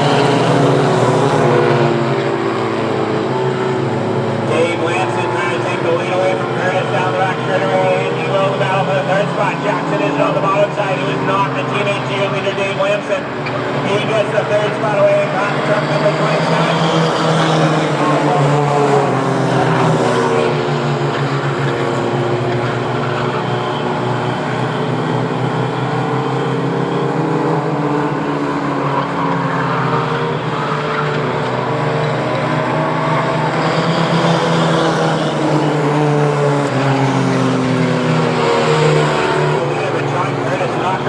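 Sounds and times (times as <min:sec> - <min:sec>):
race truck engines: 0:00.0 - 0:41.0.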